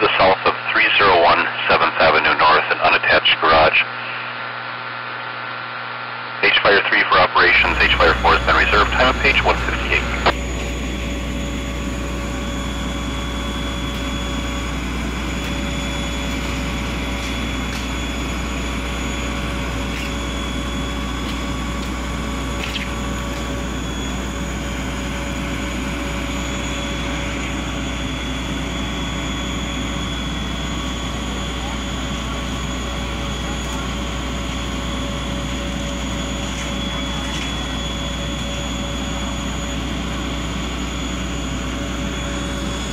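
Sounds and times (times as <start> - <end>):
diesel engine running: 7.5 - 42.9.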